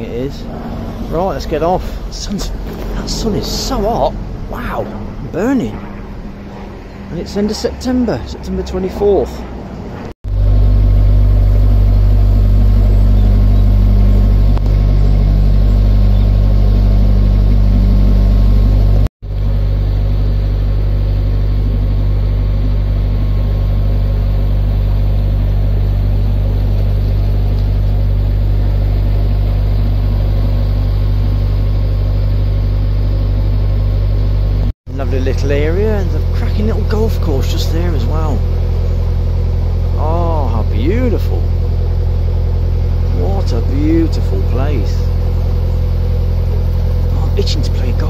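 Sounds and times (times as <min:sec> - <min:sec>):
diesel boat engine running: 0:00.0 - 0:48.0.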